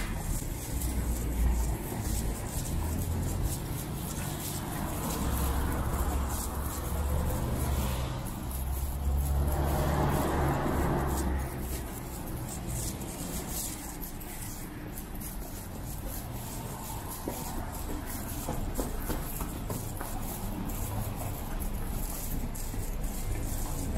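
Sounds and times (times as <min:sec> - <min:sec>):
traffic hiss on wet street: 0:00.0 - 0:23.9.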